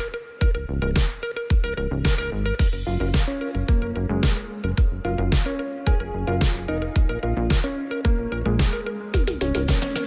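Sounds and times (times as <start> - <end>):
electronic beat music: 0.0 - 10.0
deep kick drums: 0.4 - 9.8.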